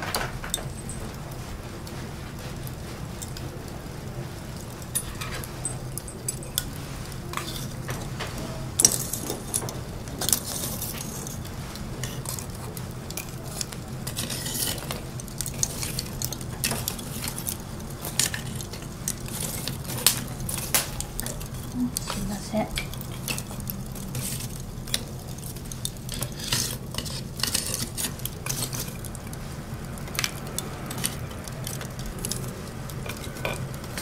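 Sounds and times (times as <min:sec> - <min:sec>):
charcoal fire crackling: 0:00.0 - 0:34.0
coals clinking: 0:00.0 - 0:34.0
steady low hum: 0:00.0 - 0:34.0.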